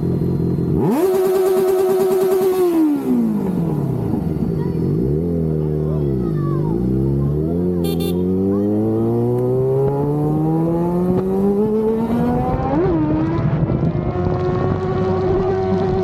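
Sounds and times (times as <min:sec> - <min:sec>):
engine accelerating: 0:00.0 - 0:16.0.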